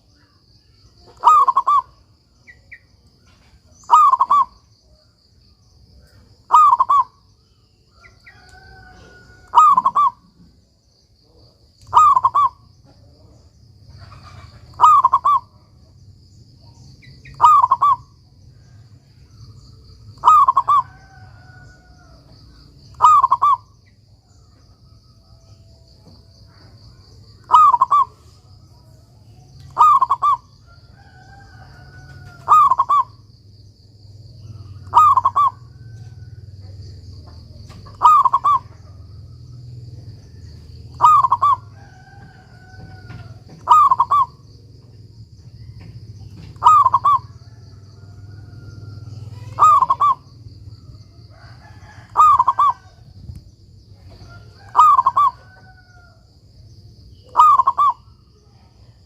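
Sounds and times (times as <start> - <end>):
faint bird calls: 0.0 - 59.0
dove cooing: 1.0 - 4.6, 6.2 - 7.2, 8.0 - 10.6, 11.8 - 15.8, 17.0 - 23.7, 24.4 - 28.5, 29.6 - 33.3, 34.4 - 56.2, 57.3 - 59.0.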